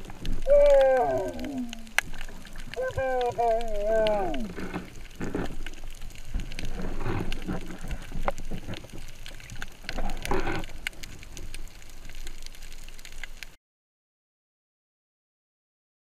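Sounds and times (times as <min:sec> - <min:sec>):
watery swells: 0:00.0 - 0:13.5
sharp clicks and crackles: 0:00.0 - 0:13.6.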